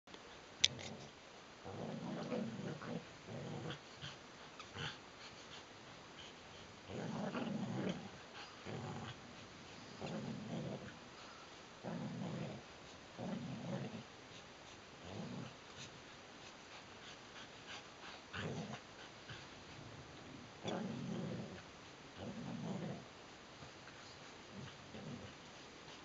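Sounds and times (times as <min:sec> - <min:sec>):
dogs growling in play: 0:00.6 - 0:26.0.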